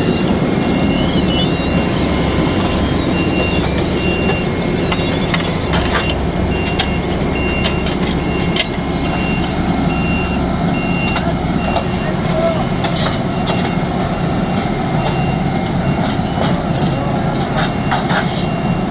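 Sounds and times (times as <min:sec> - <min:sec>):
diesel machinery engines running: 0:00.0 - 0:18.9
reversing alarm beeping: 0:00.0 - 0:18.9.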